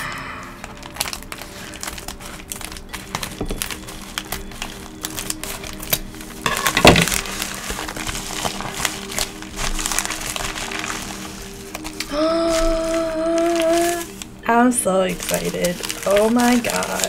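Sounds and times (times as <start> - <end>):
packaging rustling and crinkling: 0.6 - 17.0.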